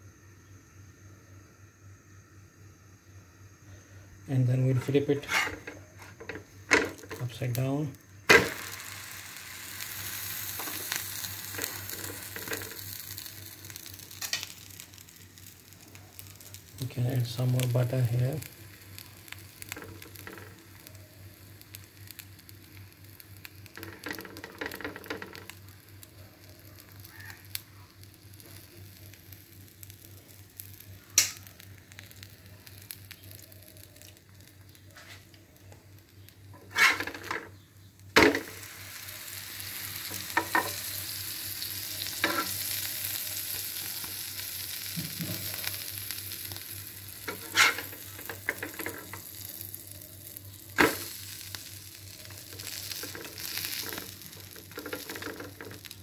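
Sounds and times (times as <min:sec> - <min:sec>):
sandwich sizzling in butter: 0:04.5 - 0:56.0.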